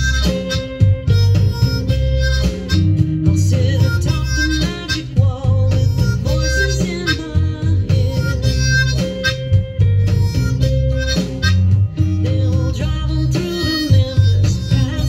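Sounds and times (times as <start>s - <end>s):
accompanying music with bass line: 0.0s - 15.0s
blues harmonica: 0.0s - 15.0s.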